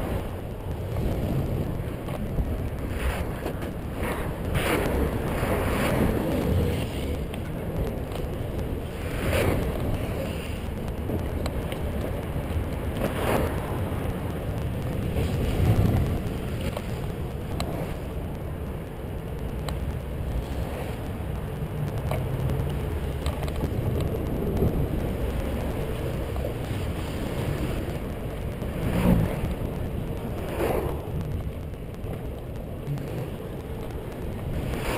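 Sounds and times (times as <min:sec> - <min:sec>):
road noise: 0:00.0 - 0:34.9
wind buffeting microphone: 0:00.0 - 0:34.9.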